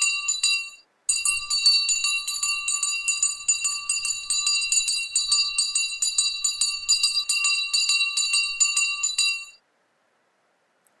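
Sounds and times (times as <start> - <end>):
small bells jingling: 0.0 - 9.6
steady ringing chord: 0.0 - 9.6.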